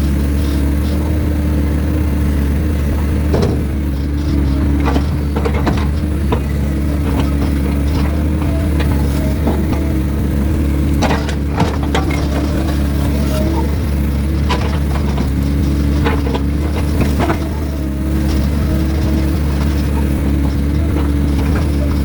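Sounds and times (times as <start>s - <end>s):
excavator diesel engine running: 0.0s - 22.0s
sharp knocks and clunks: 3.0s - 22.0s.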